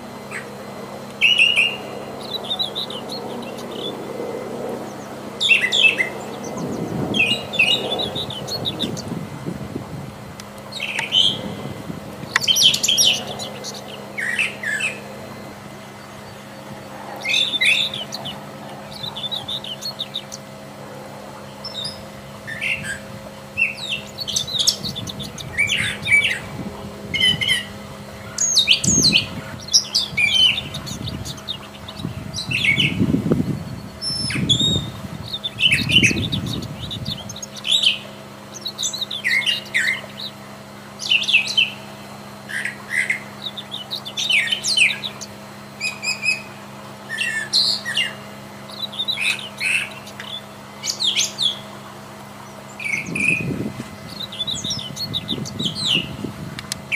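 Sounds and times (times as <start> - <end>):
bird singing varied phrases: 0.0 - 9.4, 10.5 - 56.9.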